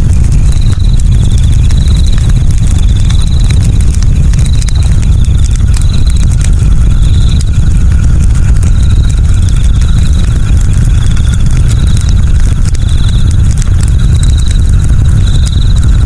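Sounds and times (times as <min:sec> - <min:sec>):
campfire crackling: 0:00.0 - 0:16.0
low fire rumble: 0:00.0 - 0:16.0
insect trill: 0:00.1 - 0:16.0.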